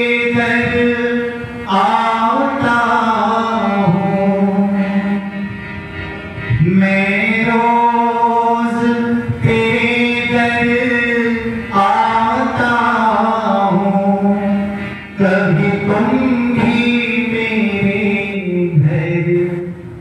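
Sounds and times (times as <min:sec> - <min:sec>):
man singing devotional song: 0:00.0 - 0:05.4, 0:06.5 - 0:19.8
musical accompaniment: 0:00.0 - 0:20.0.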